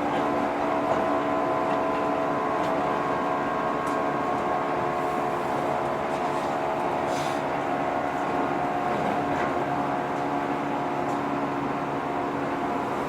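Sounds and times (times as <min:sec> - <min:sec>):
train rolling noise: 0:00.0 - 0:13.0.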